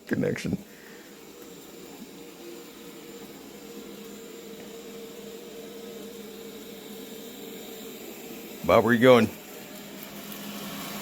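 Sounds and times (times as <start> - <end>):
robot vacuum humming: 0.0 - 11.0.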